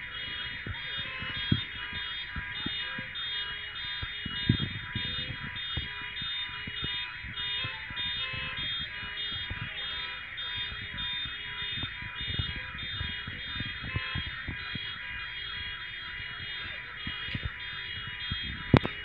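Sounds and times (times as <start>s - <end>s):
car alarms sounding: 0.0s - 19.0s.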